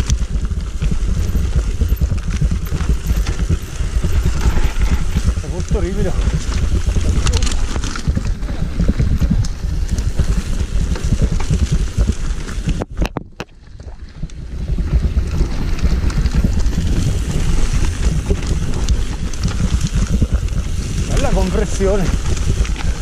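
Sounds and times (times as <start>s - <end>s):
bike tyres rumbling over dirt: 0.0s - 23.0s
wind buffeting microphone: 0.0s - 23.0s.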